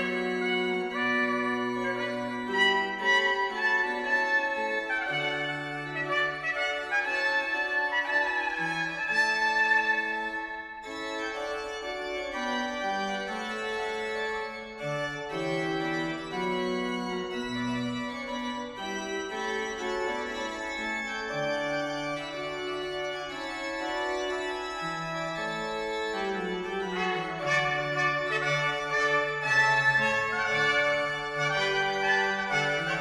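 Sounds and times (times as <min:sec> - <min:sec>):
pipe organ playing chords: 0:00.0 - 0:33.0.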